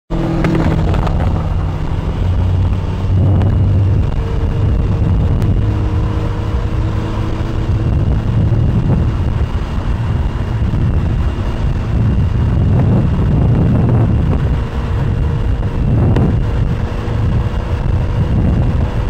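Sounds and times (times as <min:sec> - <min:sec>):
engine humming: 0:00.1 - 0:19.0
wind on microphone: 0:00.1 - 0:19.0.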